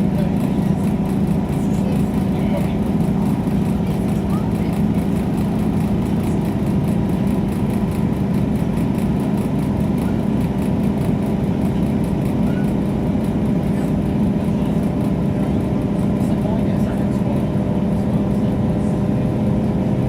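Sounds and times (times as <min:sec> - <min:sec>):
train interior running drone: 0:00.0 - 0:20.0.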